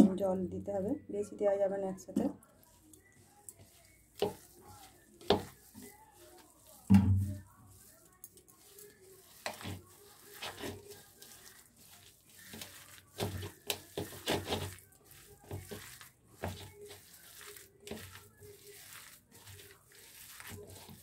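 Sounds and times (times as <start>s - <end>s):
wet squishing of mixture by hand: 2.1s - 21.0s.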